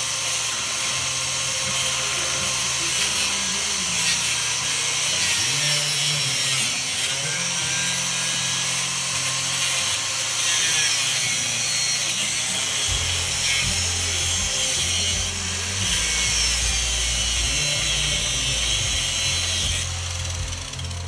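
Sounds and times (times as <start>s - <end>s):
angle grinder cutting metal: 0.0s - 21.0s.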